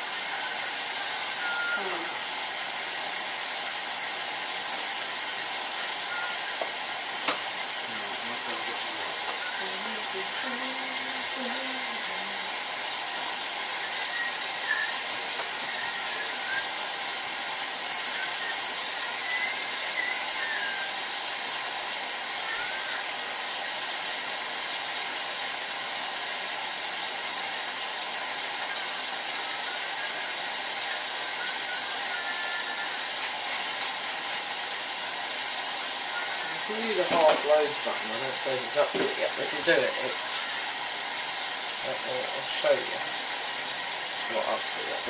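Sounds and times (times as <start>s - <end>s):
washing machine running: 0.0s - 45.0s.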